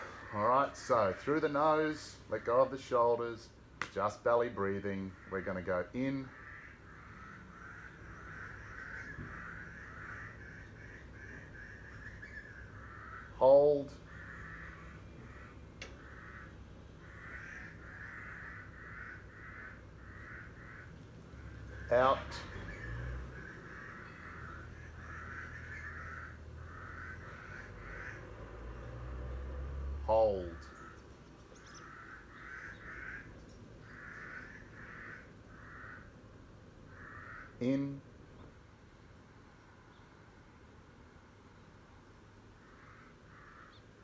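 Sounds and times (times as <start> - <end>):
crow cawing: 0.0 - 3.0, 4.3 - 29.0, 30.1 - 38.3, 42.5 - 44.0
bird's harsh calls: 0.0 - 3.6, 4.2 - 29.0, 30.0 - 38.4, 42.6 - 44.0.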